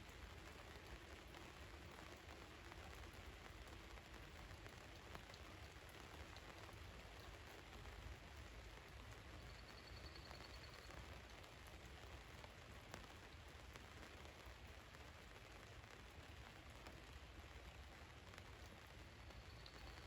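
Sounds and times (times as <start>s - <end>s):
rain hissing on a roof: 0.0s - 20.0s
raindrops ticking: 0.1s - 20.0s.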